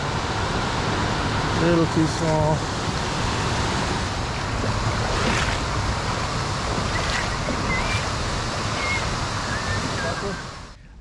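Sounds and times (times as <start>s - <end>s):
creek water rushing over weir: 0.0s - 10.8s.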